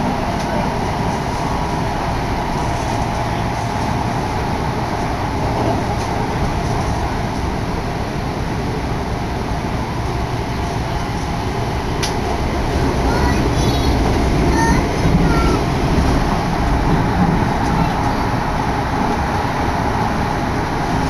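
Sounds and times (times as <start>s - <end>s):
train rumbling inside carriage: 0.0s - 21.0s.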